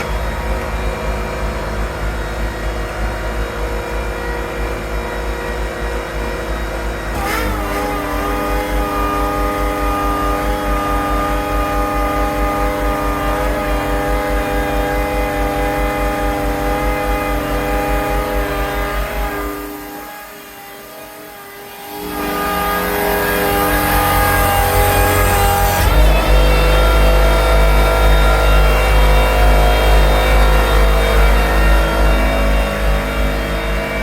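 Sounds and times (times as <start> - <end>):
workshop machine running: 0.0 - 34.0.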